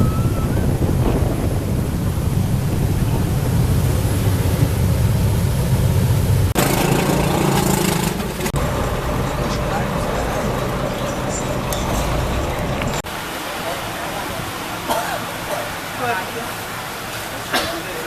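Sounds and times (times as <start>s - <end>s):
engine droning: 0.0s - 17.5s.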